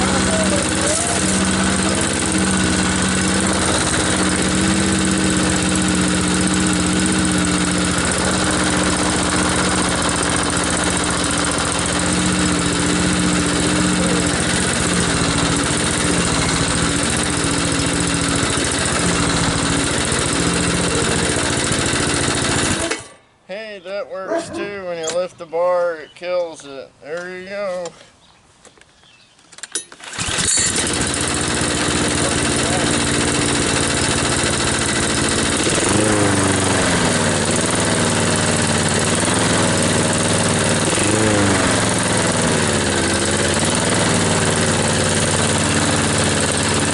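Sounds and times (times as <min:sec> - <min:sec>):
lawn mower engine running: 0:00.0 - 0:23.2, 0:29.9 - 0:46.9.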